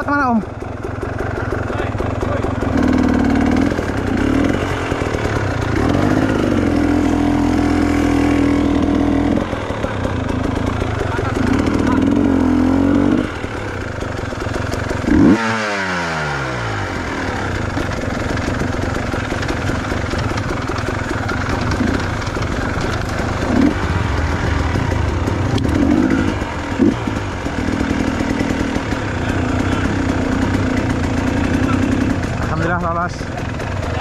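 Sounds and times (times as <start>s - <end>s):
motorcycle engines running: 0.0s - 34.0s
dirt bike passing by: 1.7s - 14.0s, 14.8s - 34.0s.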